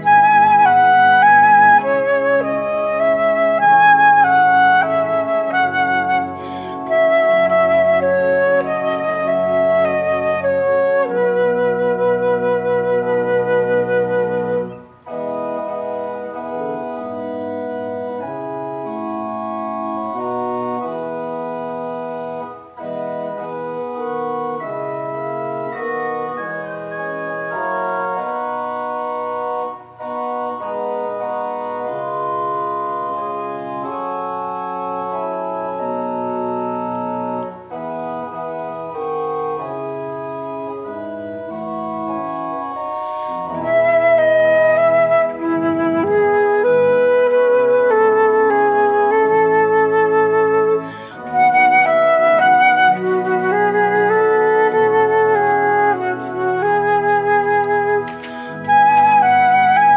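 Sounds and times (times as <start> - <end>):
flute: 0.0 - 59.9
organ playing sustained chords: 0.0 - 59.9.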